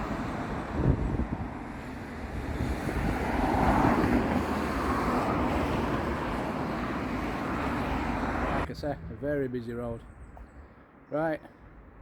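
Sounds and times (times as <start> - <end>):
vehicles rumbling past: 0.0 - 9.8
wind buffeting microphone: 0.0 - 10.7.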